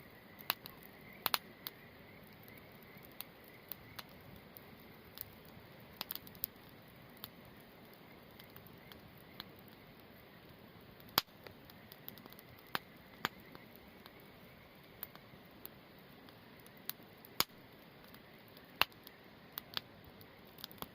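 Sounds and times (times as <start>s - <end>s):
campfire crackling: 0.0s - 20.9s.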